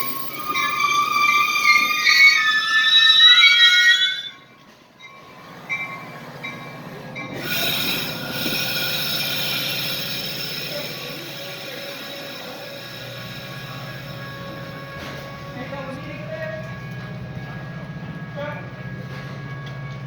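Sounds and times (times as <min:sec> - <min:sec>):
rushing train rumble: 0:00.0 - 0:20.0
train wheels squealing: 0:00.0 - 0:20.0.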